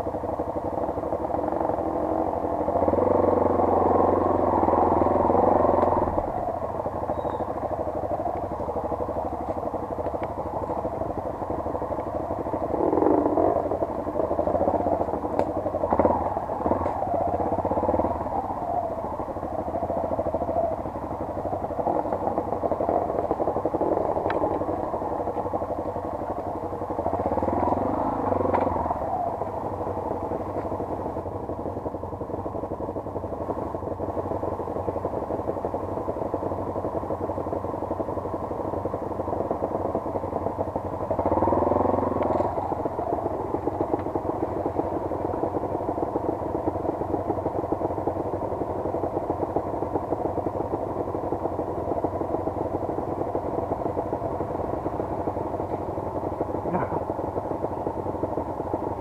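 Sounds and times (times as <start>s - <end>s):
bike clicks and clatter: 0.0s - 59.0s
motorcycle engine revving: 0.0s - 59.0s.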